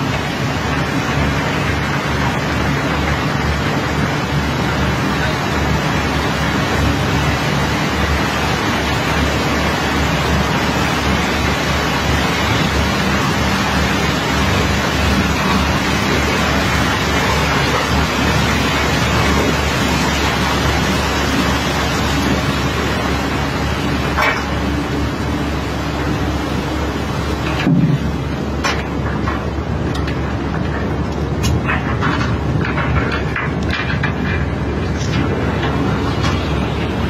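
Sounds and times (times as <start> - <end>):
engine droning: 0.0 - 37.0
hose water rushing onto metal deck: 0.0 - 37.0.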